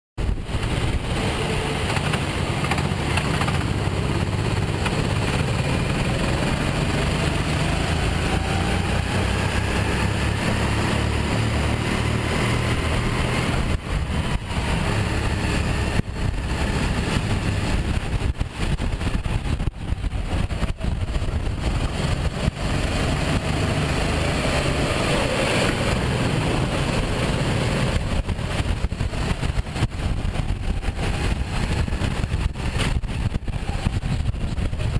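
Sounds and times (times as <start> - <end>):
kart engine running hard: 0.2 - 34.9
other kart engines: 0.2 - 34.9.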